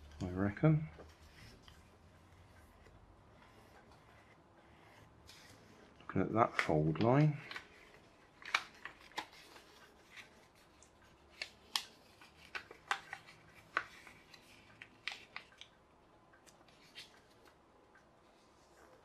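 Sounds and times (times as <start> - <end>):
paper being folded and creased: 1.0 - 15.7, 16.6 - 17.6.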